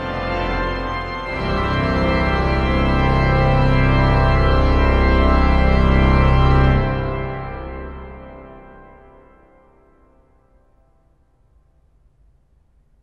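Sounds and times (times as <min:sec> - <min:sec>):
pipe organ chords: 0:00.0 - 0:11.0.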